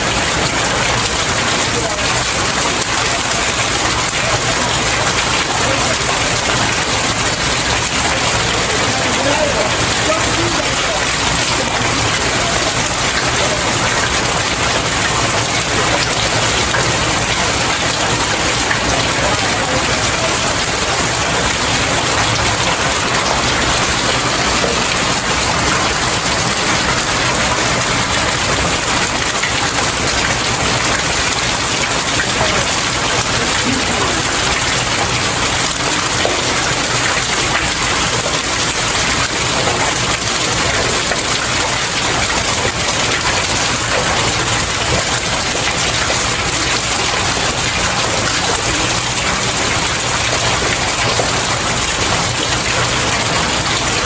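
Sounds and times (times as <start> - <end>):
heavy rain on outdoor stairs: 0.0 - 54.0.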